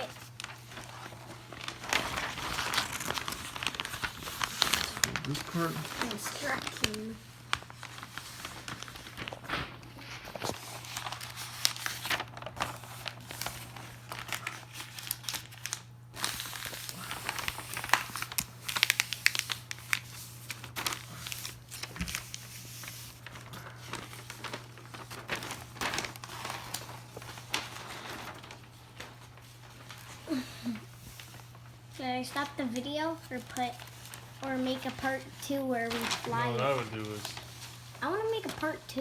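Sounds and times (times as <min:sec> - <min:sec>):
paper crinkling and rustling: 0:00.0 - 0:39.0.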